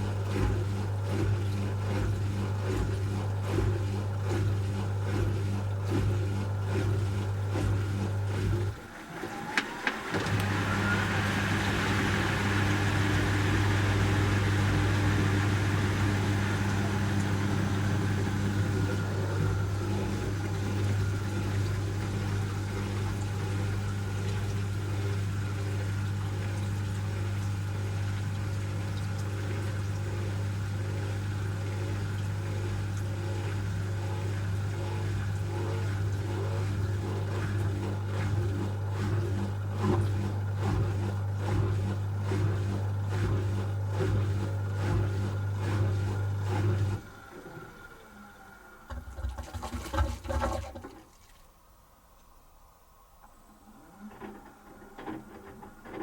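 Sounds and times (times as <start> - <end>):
washing machine motor hum: 0.0 - 51.3, 52.6 - 56.0.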